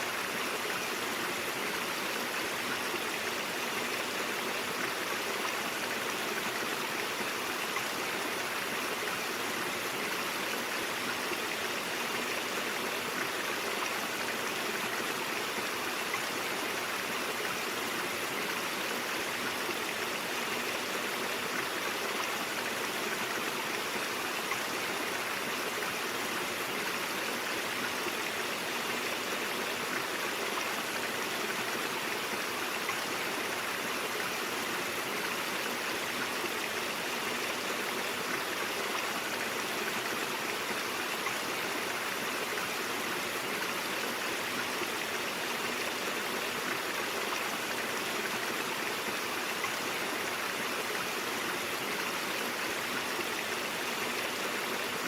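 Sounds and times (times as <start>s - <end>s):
brook flowing: 0.0s - 55.0s.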